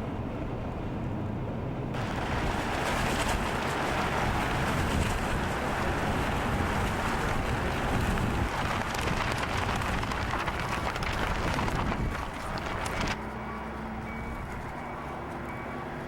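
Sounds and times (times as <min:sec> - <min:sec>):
wind buffeting microphone: 0:00.1 - 0:13.2.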